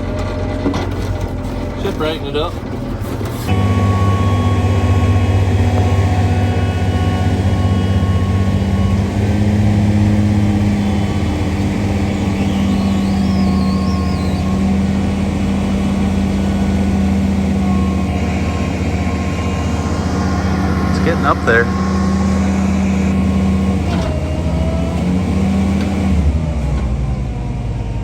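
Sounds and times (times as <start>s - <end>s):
engine running loudly: 0.0s - 28.0s.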